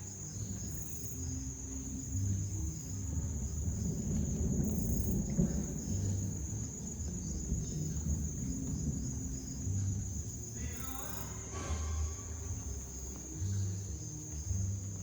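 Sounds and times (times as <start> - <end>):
low uneven rumble: 0.0 - 15.0
night insects trilling: 0.0 - 15.0.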